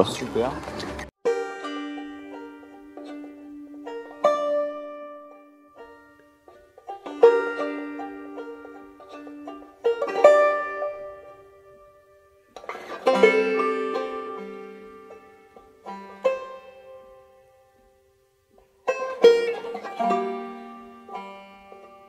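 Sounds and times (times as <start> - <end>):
plucked-string tune: 0.0 - 22.0.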